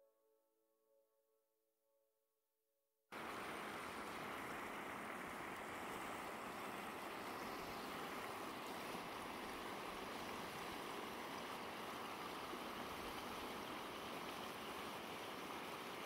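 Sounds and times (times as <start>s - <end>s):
stream running over rocks: 3.1s - 16.0s.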